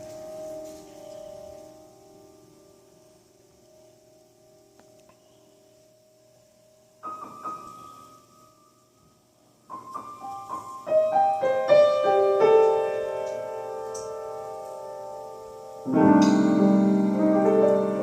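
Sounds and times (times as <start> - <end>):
piano chord sustained: 0.0 - 18.0
piano notes ringing: 0.0 - 18.0.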